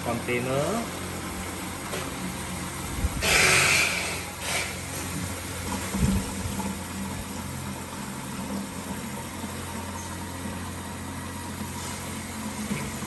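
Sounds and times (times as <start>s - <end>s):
water pump humming: 0.0s - 13.0s.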